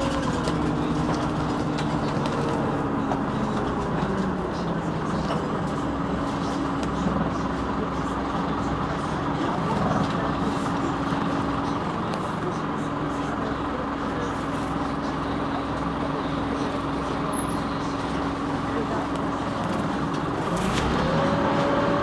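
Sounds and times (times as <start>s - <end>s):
bus engine hum: 0.0s - 22.0s.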